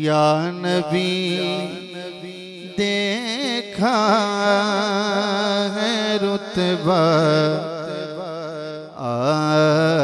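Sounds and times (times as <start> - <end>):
man singing into microphone: 0.0 - 10.0.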